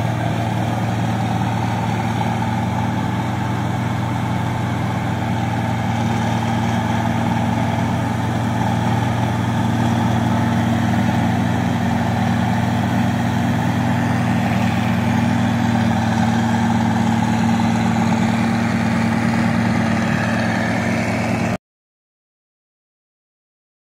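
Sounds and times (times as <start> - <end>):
diesel engine droning: 0.0 - 21.6.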